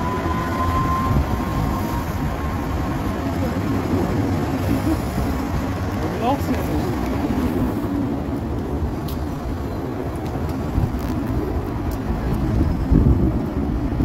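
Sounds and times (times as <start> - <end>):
light-rail car approaching: 0.0 - 14.0
traffic rumble: 0.0 - 14.0.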